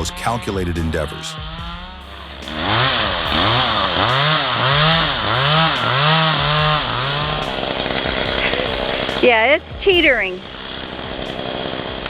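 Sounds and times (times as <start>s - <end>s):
chainsaw cutting wood: 0.0s - 9.3s, 10.4s - 12.0s.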